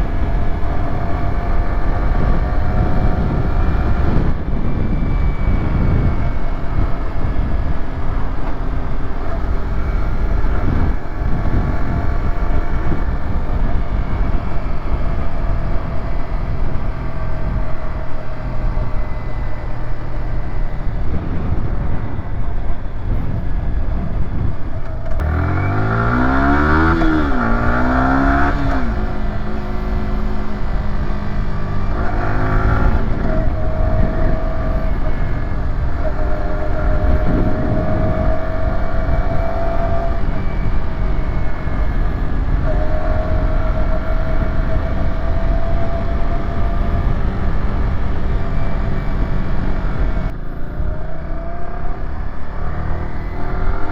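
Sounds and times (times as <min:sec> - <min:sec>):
motorcycle engine accelerating: 0:00.0 - 0:53.9
wind noise: 0:00.0 - 0:53.9.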